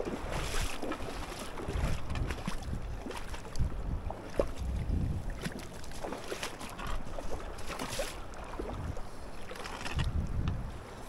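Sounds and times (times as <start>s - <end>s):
river water lapping and splashing: 0.0s - 11.0s
wind rumbling on microphone: 0.0s - 11.0s.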